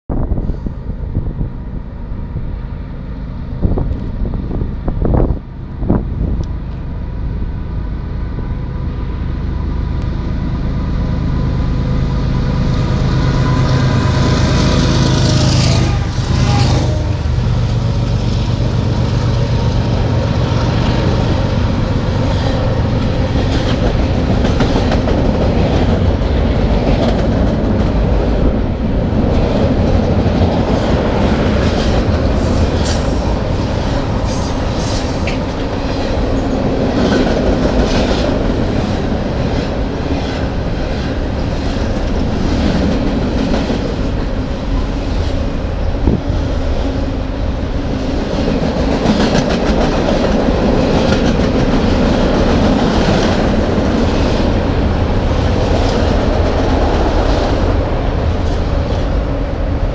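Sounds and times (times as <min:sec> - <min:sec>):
diesel locomotives passing: 0:00.1 - 0:59.9.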